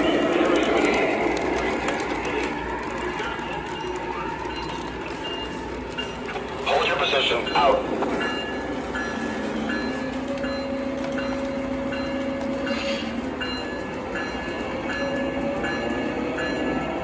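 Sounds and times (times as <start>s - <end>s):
model locomotive engine drone: 0.0s - 17.0s
wheels rumbling on track: 0.0s - 17.0s.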